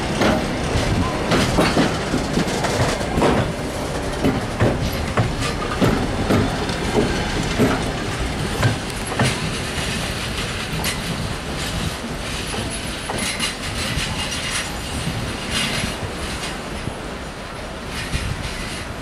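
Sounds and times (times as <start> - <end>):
train rumble: 0.0 - 19.0
train wheels clacking over rail joints: 0.0 - 19.0.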